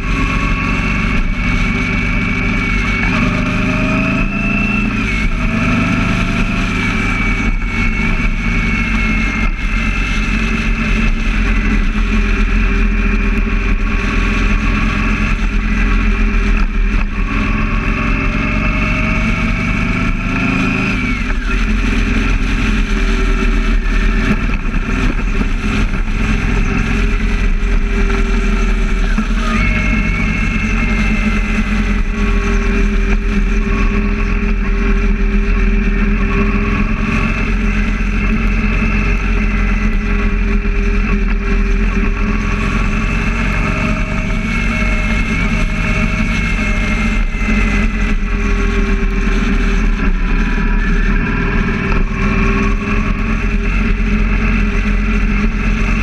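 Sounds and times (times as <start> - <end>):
motorcycle engine running: 0.0 - 56.0
wind rumble: 0.0 - 56.0.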